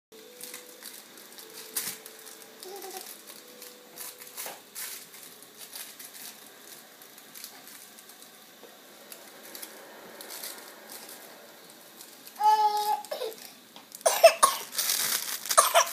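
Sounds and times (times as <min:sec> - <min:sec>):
baby rustling in a crib: 0:00.2 - 0:15.9
steady background hiss: 0:00.2 - 0:15.9.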